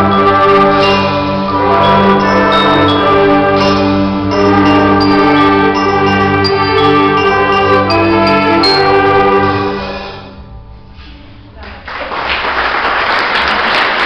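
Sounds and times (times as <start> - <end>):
bell-like struck notes: 0.0 - 11.5
live ensemble music: 0.0 - 11.9.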